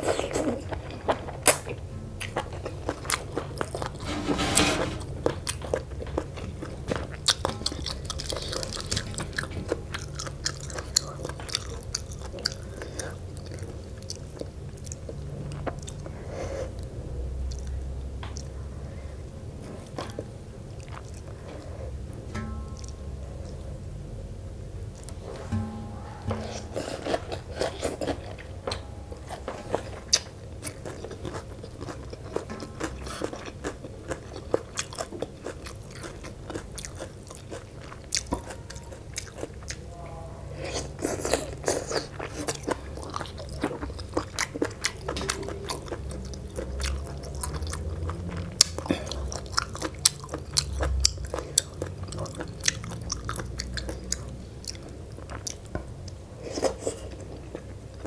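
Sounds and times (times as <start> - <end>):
person chewing food: 0.0 - 19.0, 19.8 - 22.0, 26.4 - 39.9, 40.6 - 58.0.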